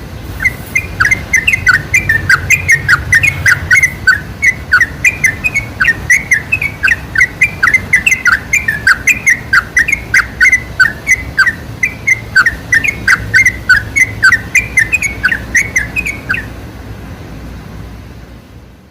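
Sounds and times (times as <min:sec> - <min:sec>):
bird singing whistled notes: 0:00.4 - 0:16.5.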